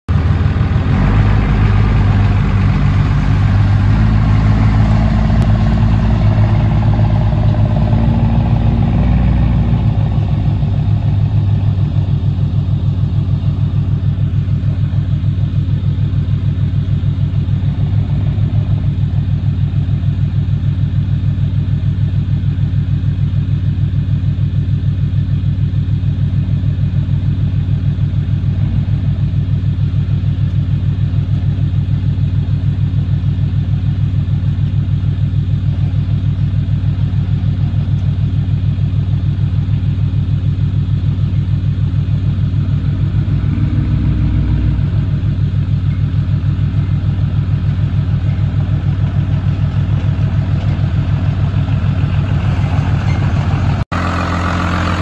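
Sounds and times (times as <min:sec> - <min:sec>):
diesel engine running: 0:00.1 - 0:55.0.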